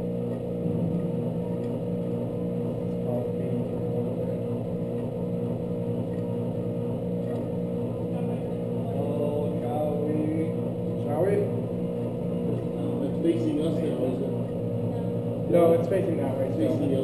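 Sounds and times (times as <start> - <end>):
vacuum pump humming: 0.0 - 17.0.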